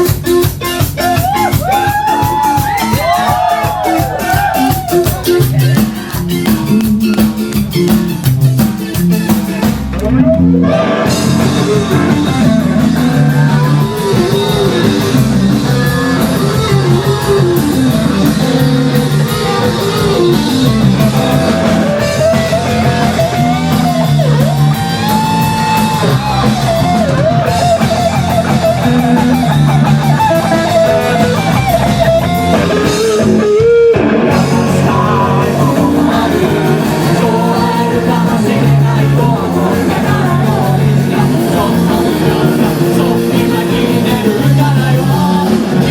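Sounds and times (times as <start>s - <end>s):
bending melody line: 0.0s - 45.9s
live rock band playing: 0.0s - 45.9s.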